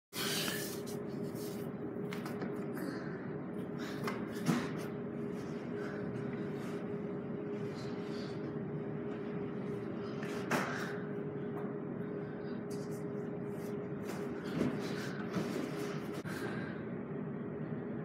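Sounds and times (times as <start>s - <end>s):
room hum: 0.1s - 18.0s.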